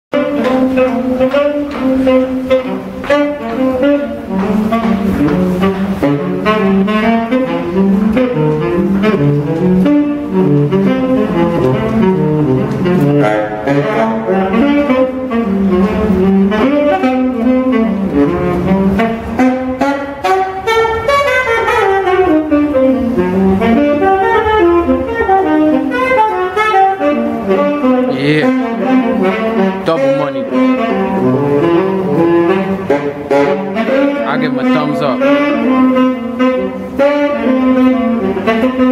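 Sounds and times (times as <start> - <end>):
solo tenor saxophone jazz: 0.1 - 38.9.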